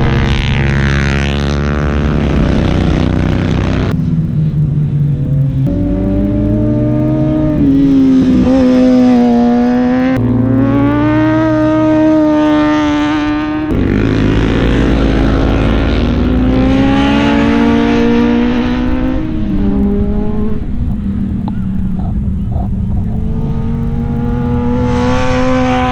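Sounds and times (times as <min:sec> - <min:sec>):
motorcycle engine revving hard: 0:00.0 - 0:04.0, 0:05.6 - 0:25.9.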